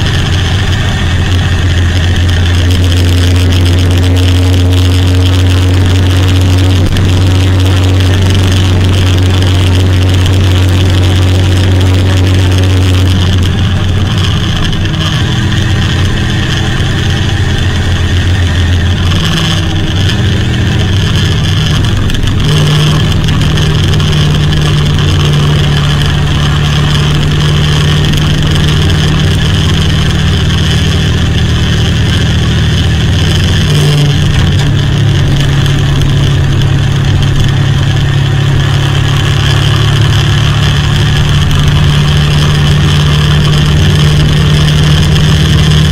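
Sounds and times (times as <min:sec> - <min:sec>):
car engine revving under load: 0:00.0 - 0:45.9.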